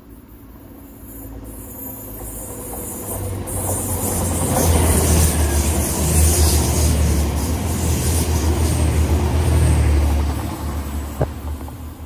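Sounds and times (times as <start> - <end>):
diesel train engine drone: 0.0 - 12.0
rush of train wheels and air: 0.0 - 12.0.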